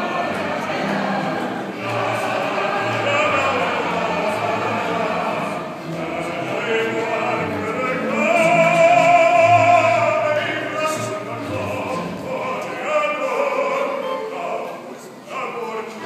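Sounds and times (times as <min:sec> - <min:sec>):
male opera singer: 0:00.0 - 0:16.0.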